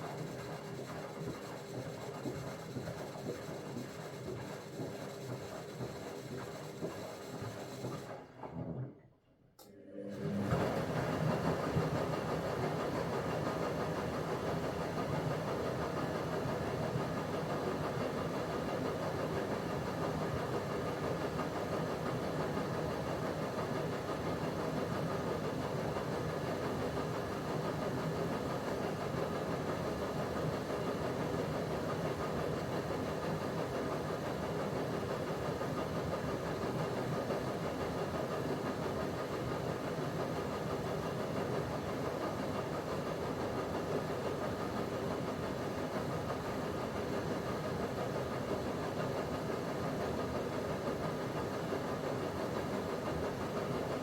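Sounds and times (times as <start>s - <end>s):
washing machine running: 0.0s - 9.1s, 9.8s - 54.0s.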